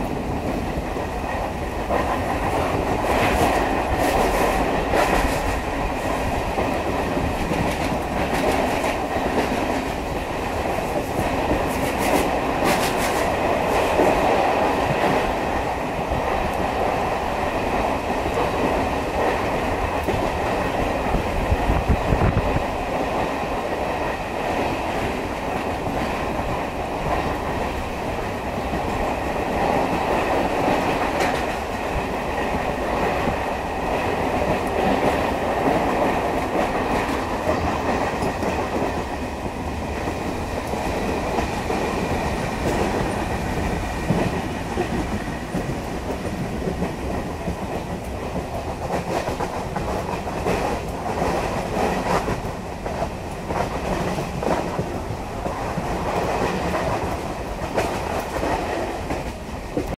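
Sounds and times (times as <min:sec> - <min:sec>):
train wheel and rail rush: 0:00.0 - 1:00.0.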